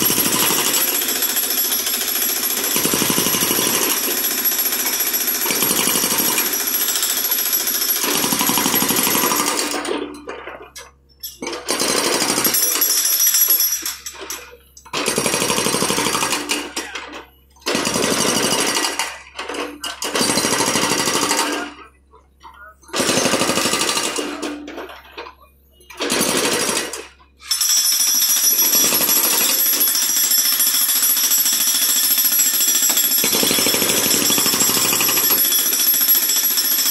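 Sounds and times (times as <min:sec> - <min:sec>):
hydraulic breaker hammering concrete: 0:00.0 - 0:10.6, 0:11.4 - 0:13.9, 0:15.0 - 0:21.7, 0:22.9 - 0:25.1, 0:26.0 - 0:36.9.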